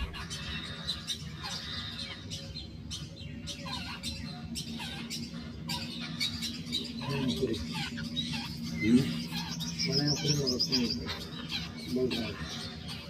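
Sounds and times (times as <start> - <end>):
babblers chirping and squawking: 0.0 - 13.0
steady low hum: 0.0 - 13.0.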